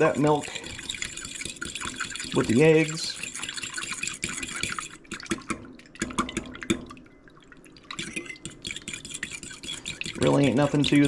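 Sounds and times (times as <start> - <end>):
liquid sloshing: 0.0 - 11.0.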